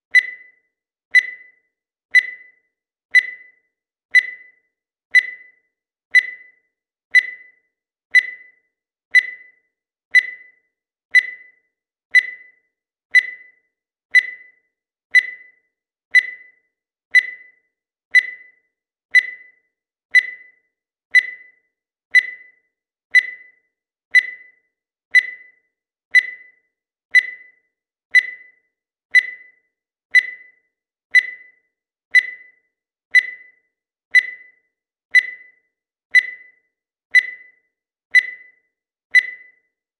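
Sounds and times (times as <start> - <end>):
digital timer beeping: 0.0 - 39.9.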